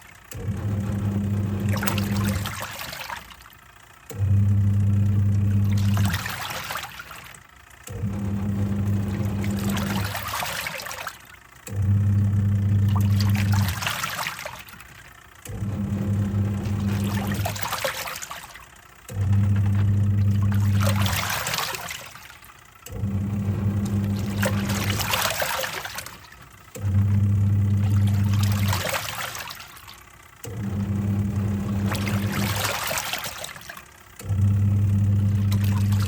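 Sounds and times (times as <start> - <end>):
water sloshing and swishing: 0.0 - 3.6, 4.2 - 36.0
washing machine motor humming: 0.0 - 36.0.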